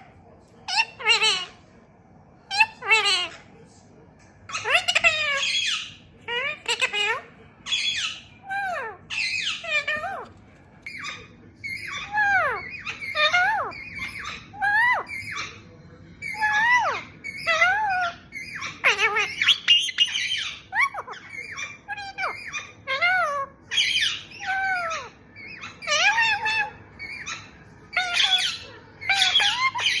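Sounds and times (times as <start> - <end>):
parrot squawking: 0.6 - 1.6, 2.5 - 3.5, 4.5 - 15.6, 16.2 - 30.0.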